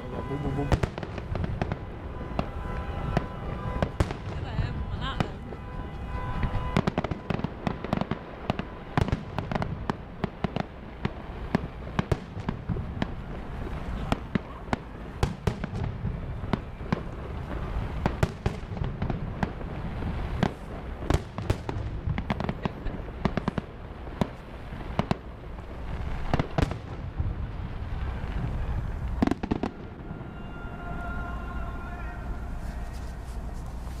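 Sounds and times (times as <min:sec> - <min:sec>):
fireworks cracks and bangs: 0:00.0 - 0:34.0.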